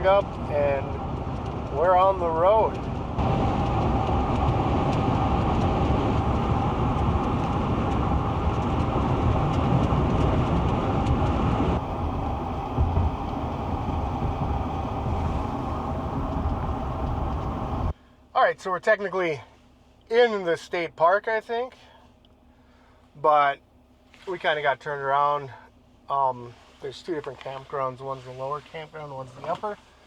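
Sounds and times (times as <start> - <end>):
road and engine rumble: 0.0 - 18.4, 19.0 - 30.0
faint steady hum: 1.7 - 30.0.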